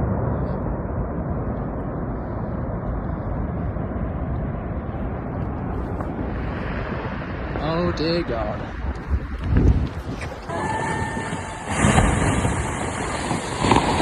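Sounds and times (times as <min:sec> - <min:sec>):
deep rumble of landslide: 0:00.0 - 0:14.0.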